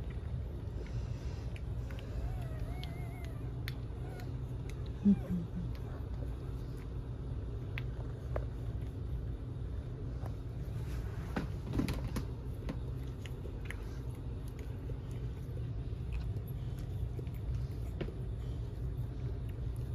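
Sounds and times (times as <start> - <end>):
low room rumble: 0.0 - 19.9
puppies suckling: 0.0 - 19.9.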